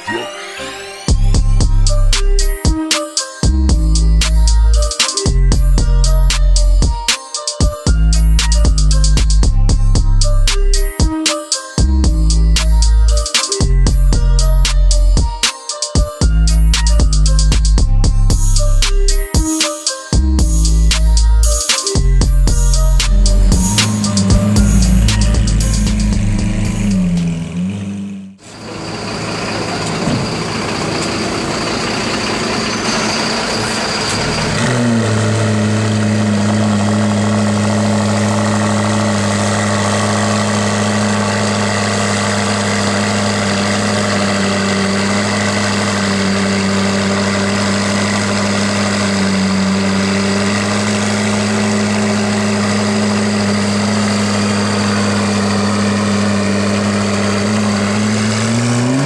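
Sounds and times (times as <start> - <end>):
car engine starting and idling: 1.1 - 7.1, 7.9 - 11.2, 11.8 - 15.5, 16.2 - 19.5, 20.2 - 59.0.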